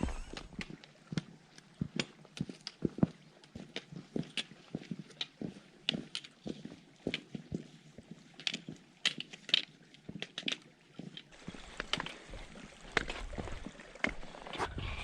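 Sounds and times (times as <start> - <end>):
footsteps on stony ground: 0.0 - 15.0.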